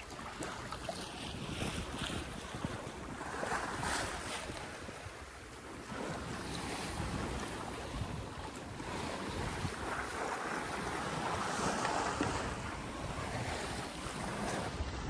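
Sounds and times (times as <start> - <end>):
waves washing past boat: 0.0 - 15.0
wind buffeting microphone: 0.0 - 15.0.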